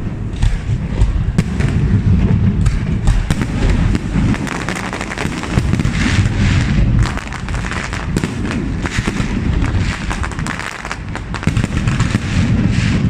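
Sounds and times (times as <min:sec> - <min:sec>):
fireworks booming: 0:00.0 - 0:13.0
fireworks crackling: 0:00.0 - 0:13.0
low rumble: 0:00.0 - 0:13.0.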